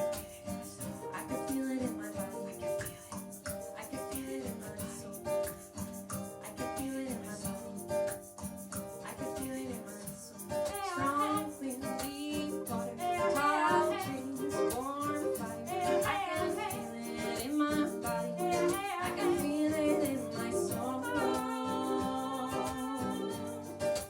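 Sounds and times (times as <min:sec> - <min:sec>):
strummed ukulele: 0:00.0 - 0:24.0
women singing reggae song: 0:00.0 - 0:24.0.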